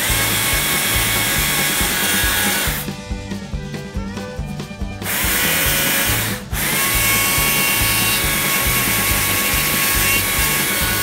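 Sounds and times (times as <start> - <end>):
chainsaw cutting wood: 0.0 - 3.1, 5.0 - 11.0.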